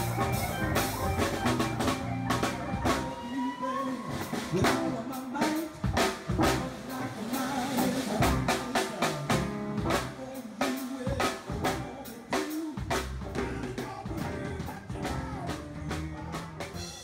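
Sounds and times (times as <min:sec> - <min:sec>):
band music with drum beat: 0:00.0 - 0:17.0.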